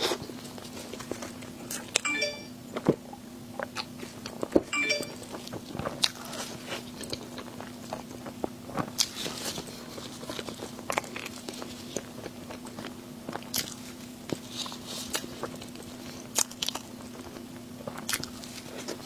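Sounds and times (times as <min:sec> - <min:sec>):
chewing crunchy food: 0:00.0 - 0:02.1, 0:02.8 - 0:19.0.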